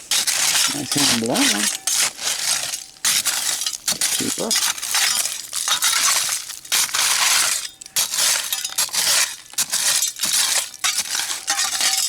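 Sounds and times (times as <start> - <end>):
broken glass clinking and crunching: 0.1 - 12.0.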